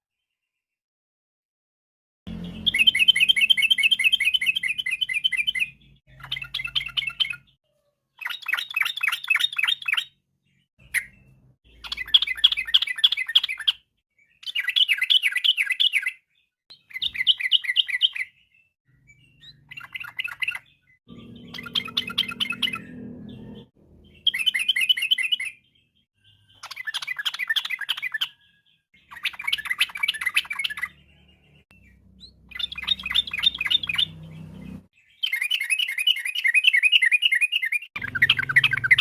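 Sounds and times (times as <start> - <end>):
bulbul singing: 2.3 - 7.6, 8.2 - 39.0.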